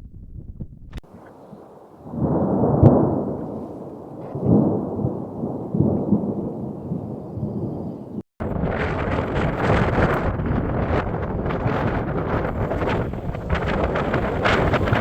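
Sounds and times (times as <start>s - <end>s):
thunder rumbling: 0.0s - 15.0s
wind on microphone: 0.0s - 15.0s.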